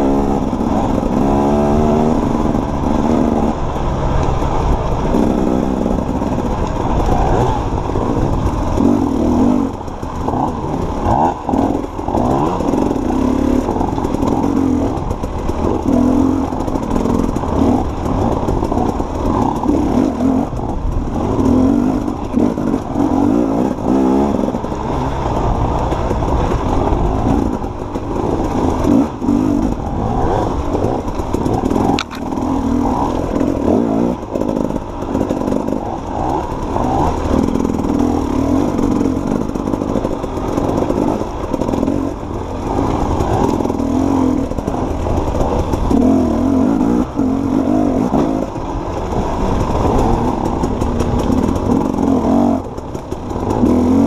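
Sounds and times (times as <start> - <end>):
bike knocking and clattering: 0.0 - 24.0, 24.6 - 54.0
dirt bike engine revving: 0.0 - 54.0.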